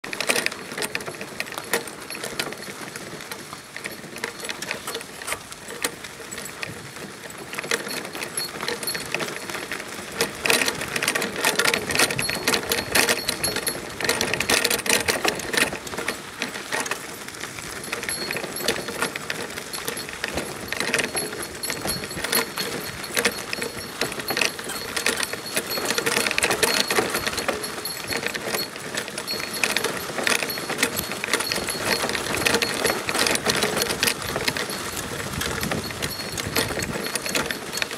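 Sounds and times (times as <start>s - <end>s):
cart rattling on dirt road: 0.0s - 37.9s.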